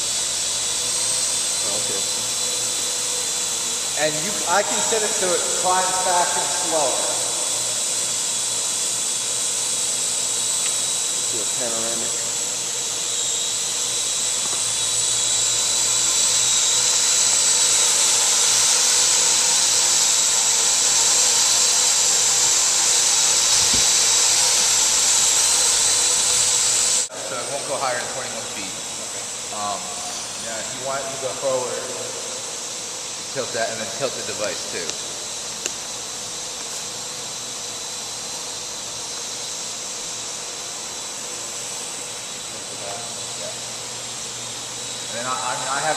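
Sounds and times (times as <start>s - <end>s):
drone rotors whining: 0.0s - 45.9s.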